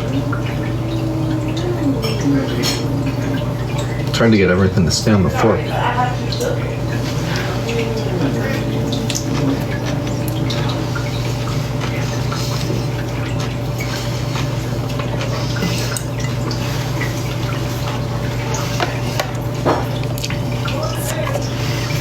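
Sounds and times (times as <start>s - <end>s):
wet chewing: 0.0s - 4.2s, 5.3s - 22.0s
steady low hum: 0.0s - 22.0s.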